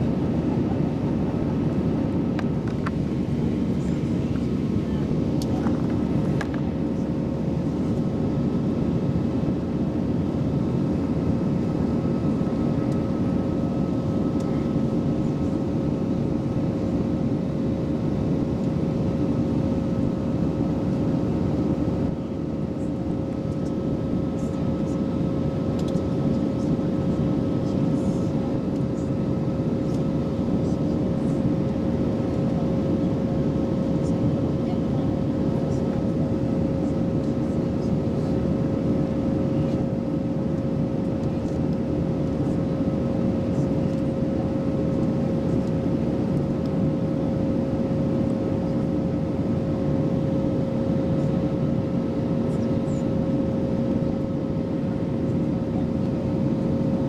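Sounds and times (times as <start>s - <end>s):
airliner cabin engine rumble: 0.0s - 57.0s
constant hum tone: 0.0s - 57.0s.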